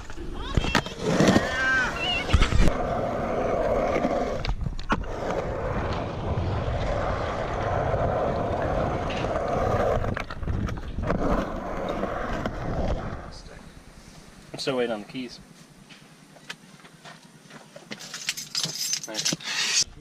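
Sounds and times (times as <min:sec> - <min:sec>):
skateboard wheels rolling on concrete: 0:00.0 - 0:18.2.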